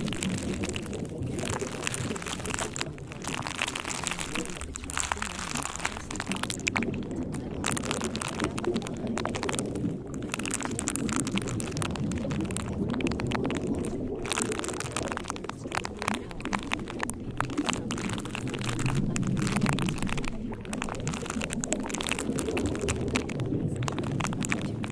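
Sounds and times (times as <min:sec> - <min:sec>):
rain-like patter with crackles: 0:00.0 - 0:24.9.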